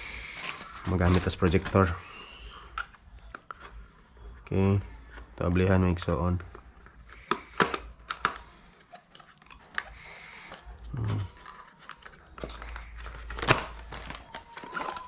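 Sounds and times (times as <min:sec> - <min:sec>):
packaging crinkling: 0:00.0 - 0:04.0, 0:06.2 - 0:15.0.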